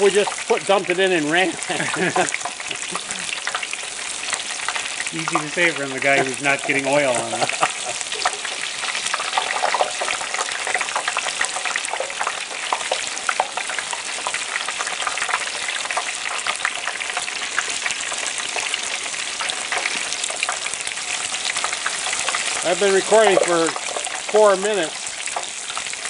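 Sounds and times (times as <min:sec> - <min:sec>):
oil sizzling and popping: 0:00.0 - 0:26.0.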